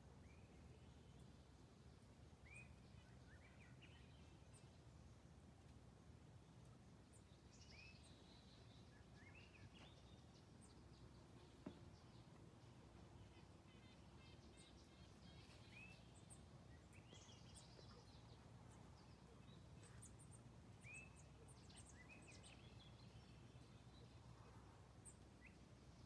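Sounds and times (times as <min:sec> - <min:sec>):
low steady hum: 0:00.0 - 0:26.0
small birds chirping: 0:00.2 - 0:05.3, 0:06.0 - 0:26.0.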